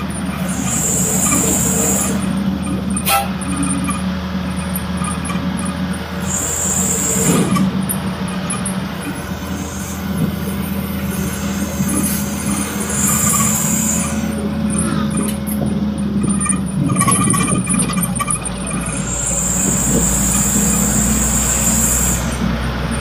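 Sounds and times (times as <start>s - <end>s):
road noise: 0.0s - 23.0s
truck engine running: 0.0s - 23.0s.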